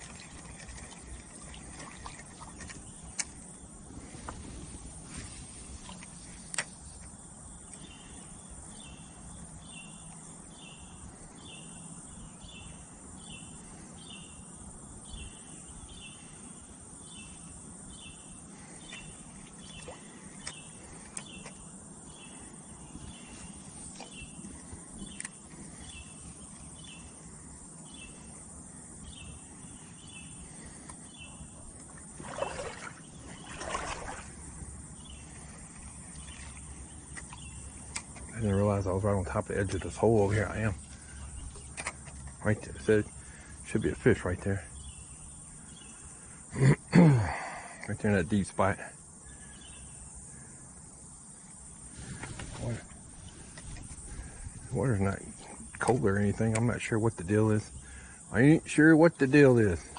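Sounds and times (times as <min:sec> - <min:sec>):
insect chirping: 0:00.0 - 0:59.9
outdoor background hiss: 0:00.0 - 0:59.9.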